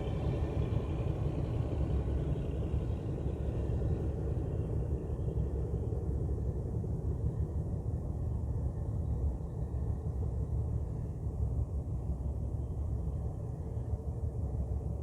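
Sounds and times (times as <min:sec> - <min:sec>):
ship engine low rumble: 0:00.0 - 0:15.0.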